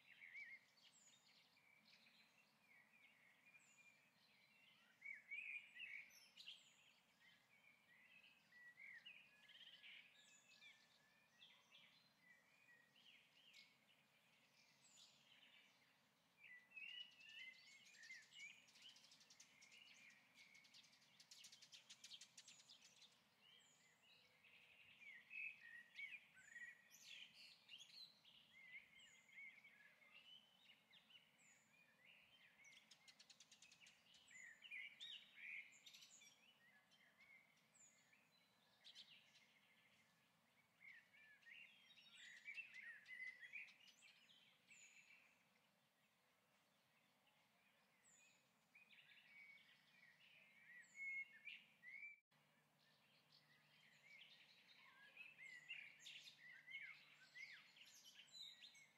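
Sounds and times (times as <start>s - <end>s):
faint birdsong chirps and trills: 0.0s - 58.9s.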